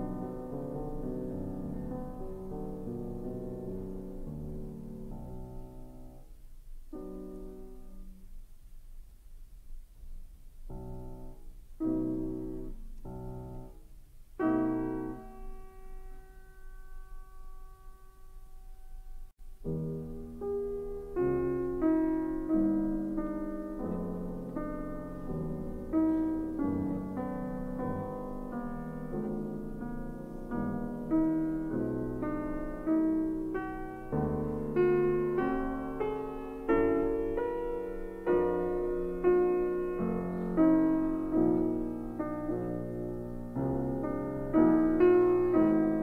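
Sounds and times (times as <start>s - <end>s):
slow piano music: 0.0s - 46.0s.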